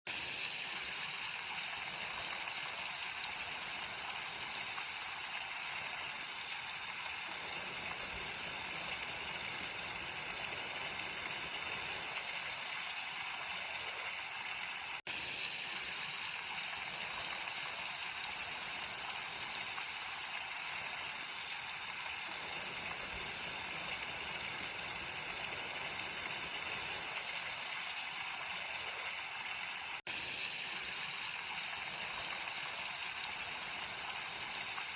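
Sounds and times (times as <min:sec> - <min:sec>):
stream flowing over rocks: 0:00.2 - 0:34.9.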